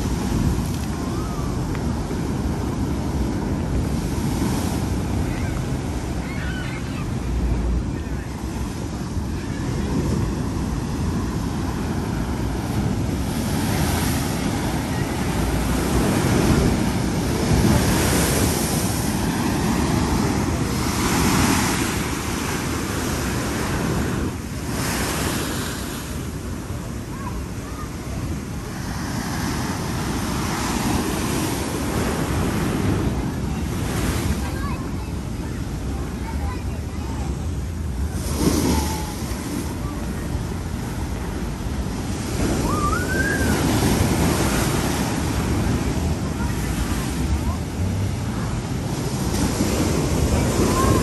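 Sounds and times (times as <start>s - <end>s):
storm surf breaking against seawall: 0.0s - 51.0s.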